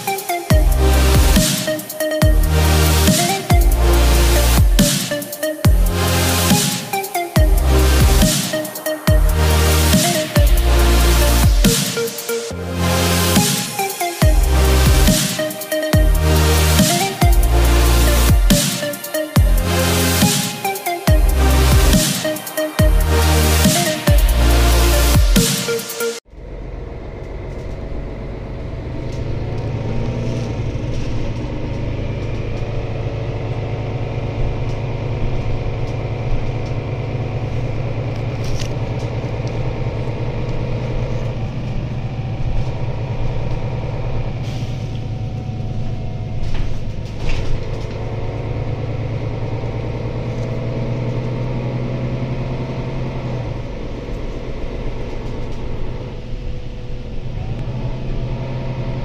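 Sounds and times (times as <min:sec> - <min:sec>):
bus diesel engine drone: 0:00.0 - 0:59.0
road noise: 0:00.0 - 0:59.0.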